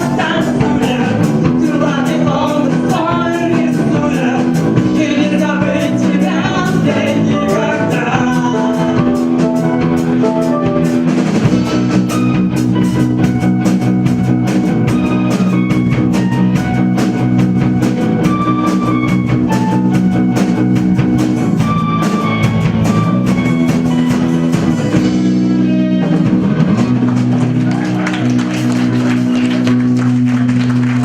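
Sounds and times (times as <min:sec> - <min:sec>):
drum kit: 0:00.0 - 0:31.0
sustained guitar chords: 0:00.0 - 0:31.0.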